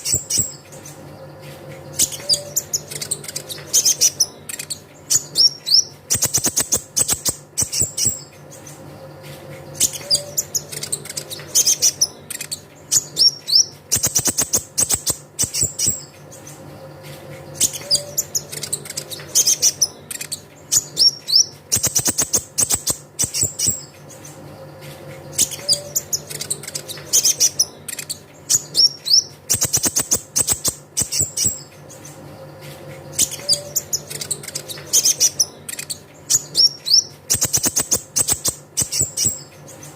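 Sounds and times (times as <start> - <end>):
bird chirping trills: 0.0 - 39.9.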